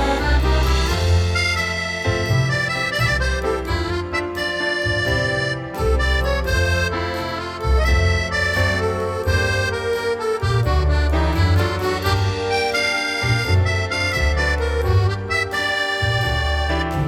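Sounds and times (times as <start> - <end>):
accordion music: 0.0 - 17.0.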